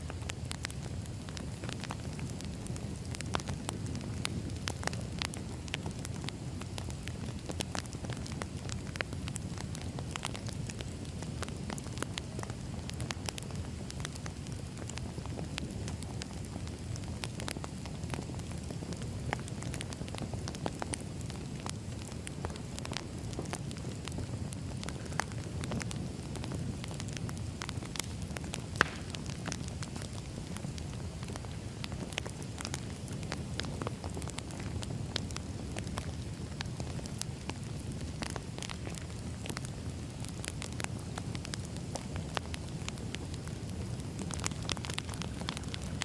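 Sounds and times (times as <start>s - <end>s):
burning logs crackling: 0.0s - 46.0s
fire flame rumble: 0.0s - 46.0s.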